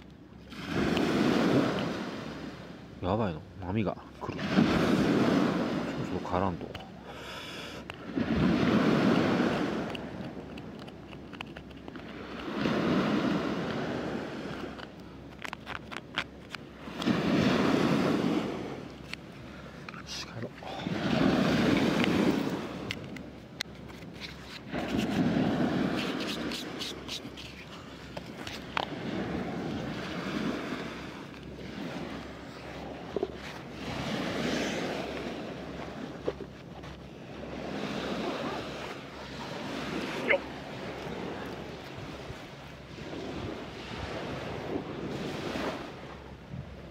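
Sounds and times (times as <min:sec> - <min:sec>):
waves washing up a beach: 0:00.0 - 0:46.9.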